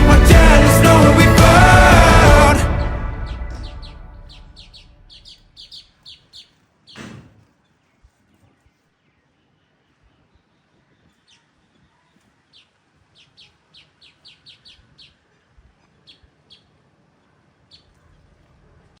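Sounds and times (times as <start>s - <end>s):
birds chirping: 0.0s - 8.0s, 9.1s - 16.7s.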